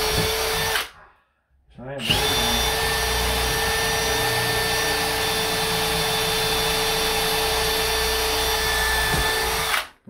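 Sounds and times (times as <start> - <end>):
power drill running: 0.0 - 0.9, 2.0 - 9.9.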